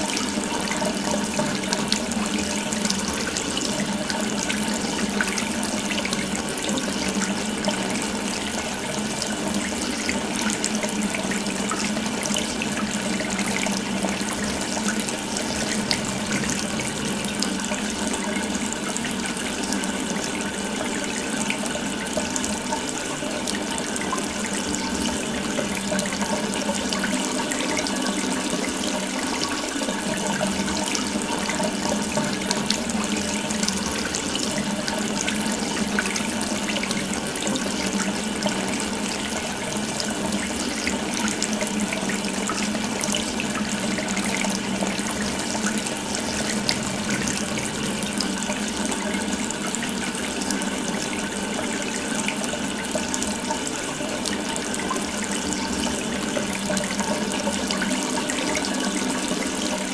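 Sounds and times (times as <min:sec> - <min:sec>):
water running from a tap: 0:00.0 - 0:59.9.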